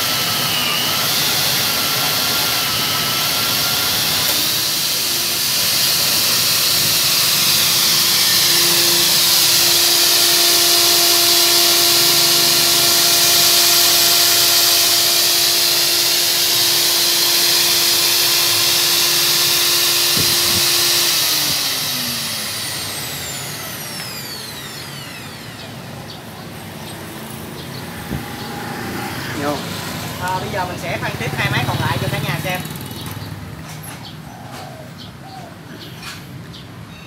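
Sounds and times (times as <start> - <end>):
magnetic drill motor running: 0.0 - 33.2
motor winding down whine: 0.0 - 33.2.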